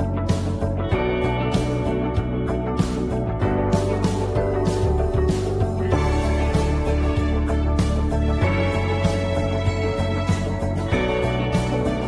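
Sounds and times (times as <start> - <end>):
instrumental music with pulsing bass: 0.0 - 12.0.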